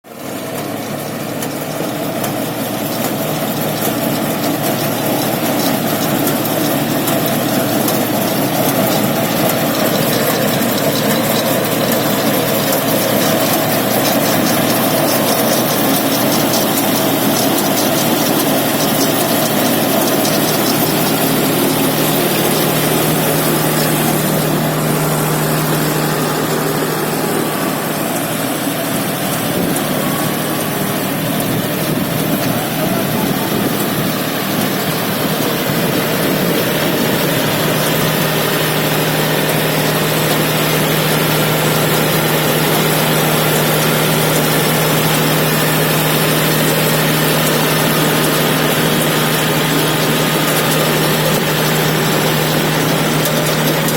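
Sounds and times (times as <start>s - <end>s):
tractor engine running: 0.0s - 53.9s
reaper rattling: 1.2s - 53.9s.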